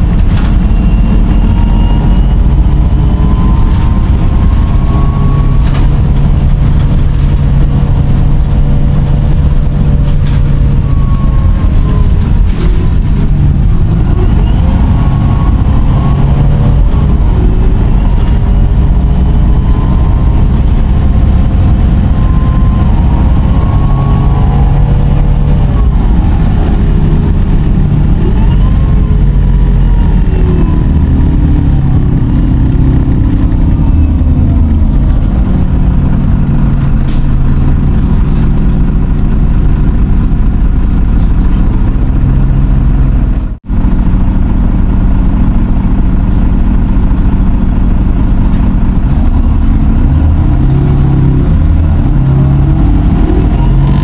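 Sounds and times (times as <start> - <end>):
diesel bus engine idling: 0.0 - 54.0.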